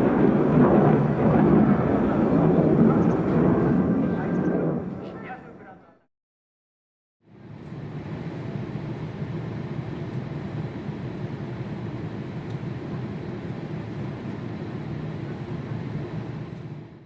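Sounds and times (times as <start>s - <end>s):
jet engine rumble: 0.0s - 6.1s, 7.3s - 17.0s.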